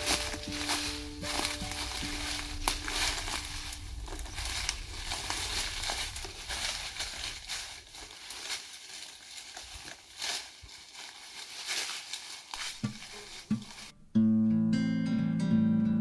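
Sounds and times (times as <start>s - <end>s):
footsteps crunching through dry leaves: 0.0s - 14.0s.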